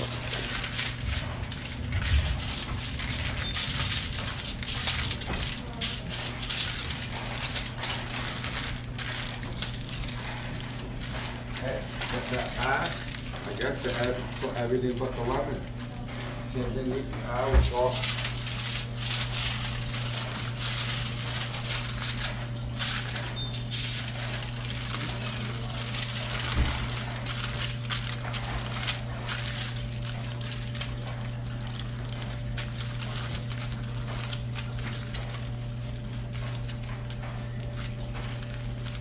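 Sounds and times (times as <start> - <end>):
aluminium foil crinkling: 0.0 - 39.0
steady low hum: 0.0 - 39.0.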